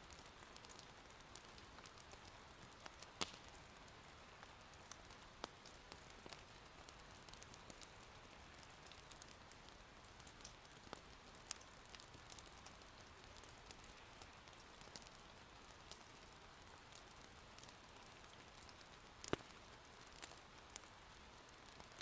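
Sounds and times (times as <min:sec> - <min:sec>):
faint rain patter: 0:00.0 - 0:22.0
wood fire crackling: 0:00.1 - 0:22.0.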